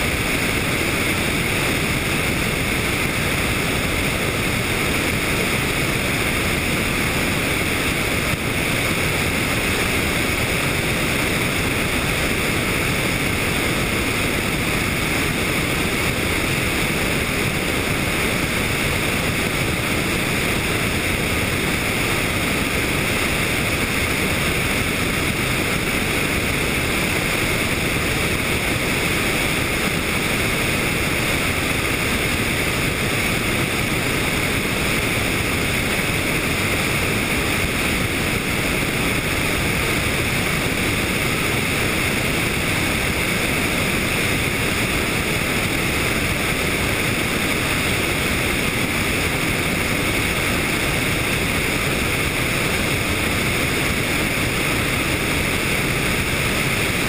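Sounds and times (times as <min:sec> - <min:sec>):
helicopter engine and rotor: 0:00.0 - 0:57.0
wind rushing over microphone: 0:00.0 - 0:57.0.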